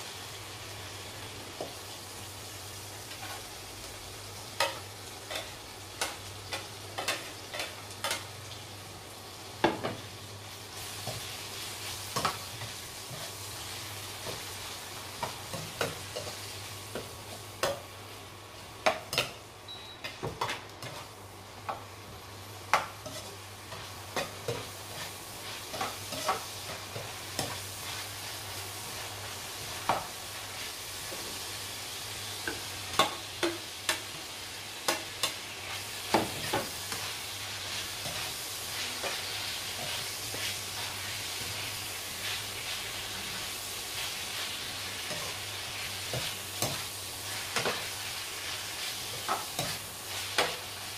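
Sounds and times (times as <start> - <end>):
stir-fry sizzling in wok: 0.0 - 50.9.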